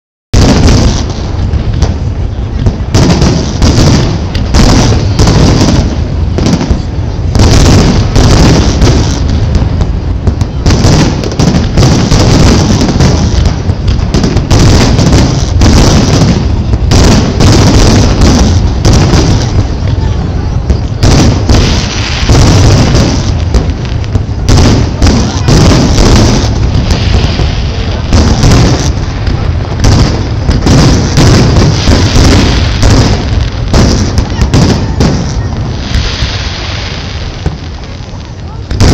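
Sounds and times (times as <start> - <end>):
fireworks bursting: 0.3 - 38.9.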